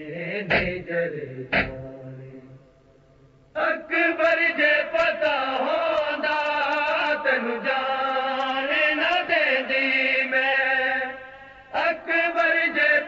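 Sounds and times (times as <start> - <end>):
group chanting a lament: 0.0 - 2.5, 3.5 - 13.0.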